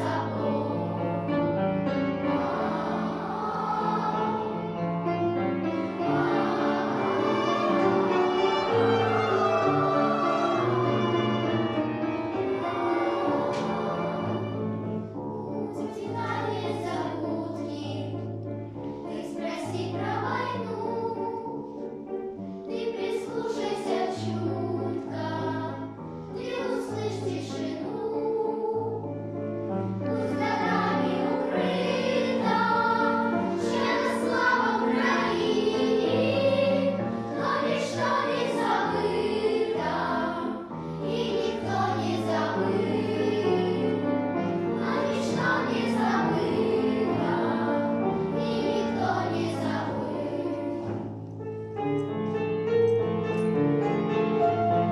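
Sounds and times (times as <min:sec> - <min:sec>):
children's choir singing: 0:00.0 - 0:51.2.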